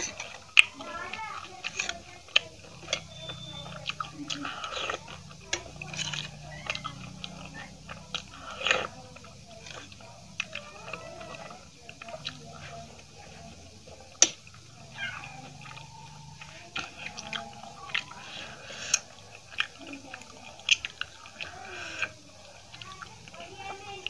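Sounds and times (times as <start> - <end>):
chewing and wet mouth smacks: 0.0 - 24.0.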